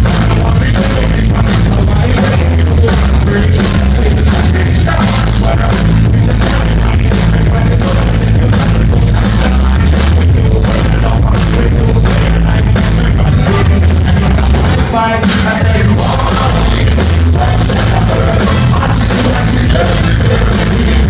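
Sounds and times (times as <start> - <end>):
drum kit beat: 0.0 - 21.0
live rock band playing: 0.0 - 21.0.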